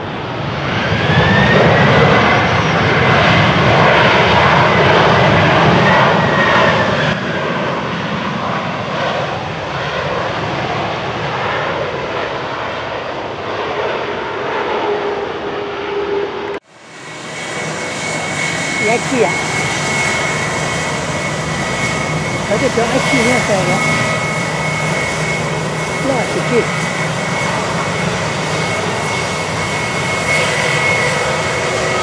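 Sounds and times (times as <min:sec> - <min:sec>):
jet engines rushing and whining: 0:00.0 - 0:32.0.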